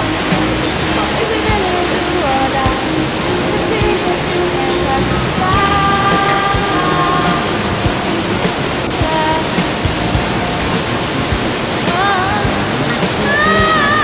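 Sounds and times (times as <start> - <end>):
stream rushing over boulders: 0.0 - 14.0
wavering melodic tones: 0.0 - 14.0.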